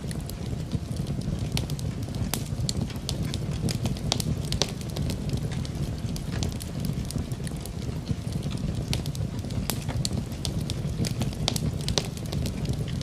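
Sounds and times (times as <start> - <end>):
rain rushing: 0.0 - 13.0
wood fire crackling: 0.0 - 13.0.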